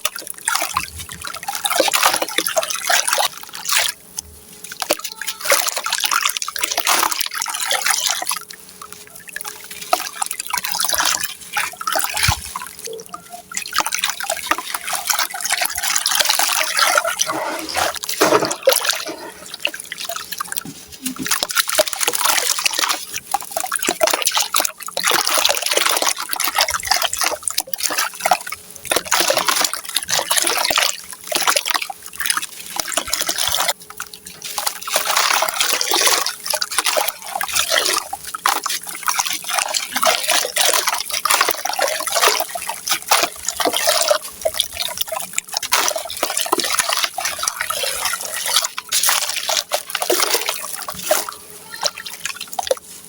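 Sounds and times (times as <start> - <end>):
water dripping and trickling: 0.0 - 53.0.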